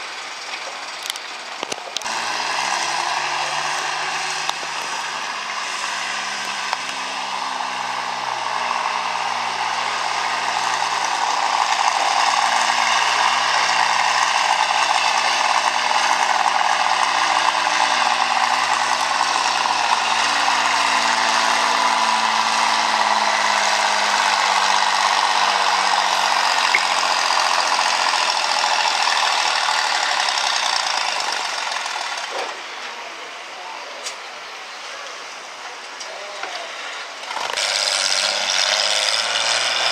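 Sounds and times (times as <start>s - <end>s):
tractor engine running under load: 0.0s - 33.3s, 36.4s - 39.9s.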